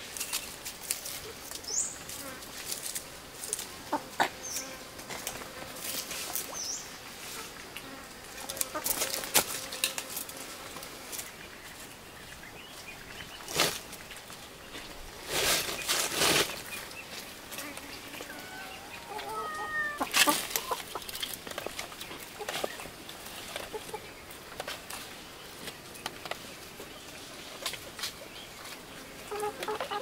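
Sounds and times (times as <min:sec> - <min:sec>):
dry leaves and burrs rustling: 0:00.0 - 0:30.0.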